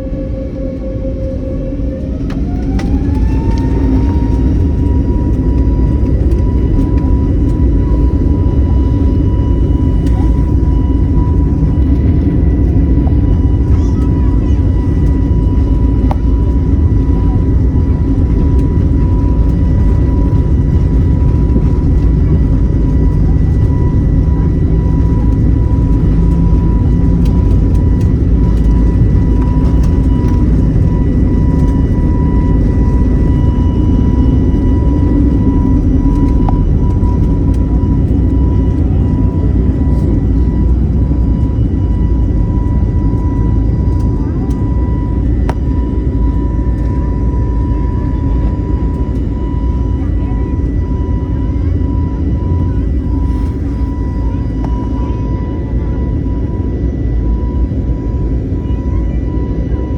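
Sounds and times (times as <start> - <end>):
high jet engine whine: 0.0 - 59.9
jet engines rumbling: 0.0 - 59.9.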